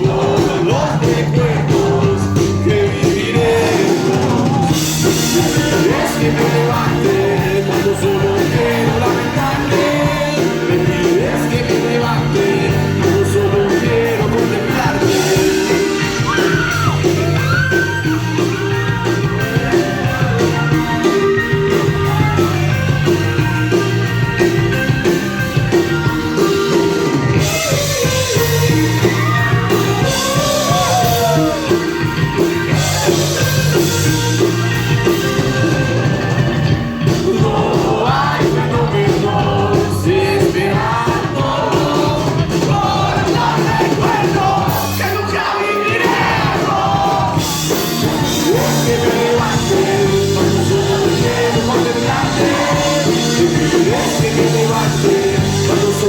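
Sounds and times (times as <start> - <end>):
rock music with singing: 0.0 - 56.0.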